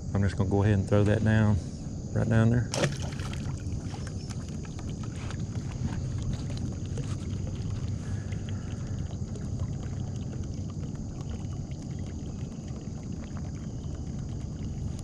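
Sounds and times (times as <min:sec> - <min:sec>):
water around hull: 0:00.0 - 0:15.0
boat motor humming: 0:00.8 - 0:15.0.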